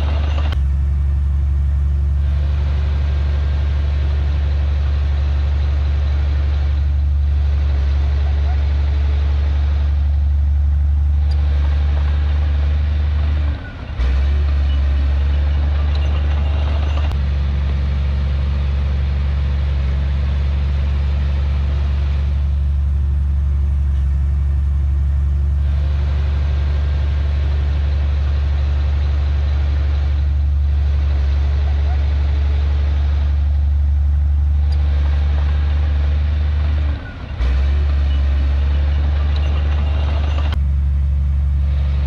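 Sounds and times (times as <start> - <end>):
heavy diesel engine droning: 0.0 - 42.0.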